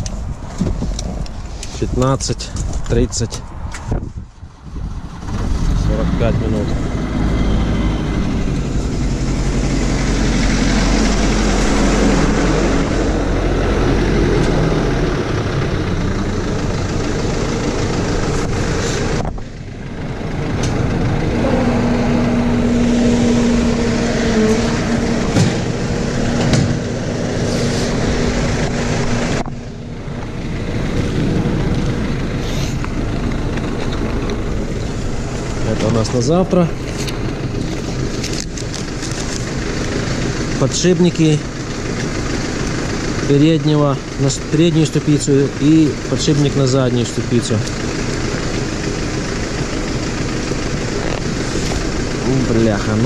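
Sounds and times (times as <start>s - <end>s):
diesel engine idling: 4.4s - 53.0s.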